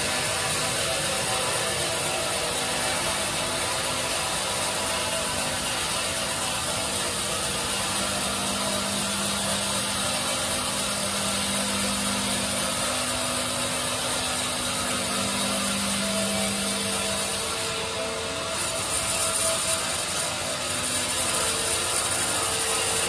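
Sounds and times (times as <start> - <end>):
bandsaw sawing hiss: 0.0 - 23.0.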